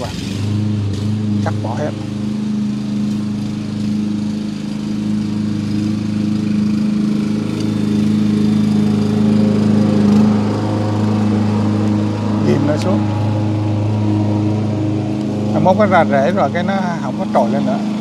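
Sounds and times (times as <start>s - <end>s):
low motor drone: 0.0s - 18.0s.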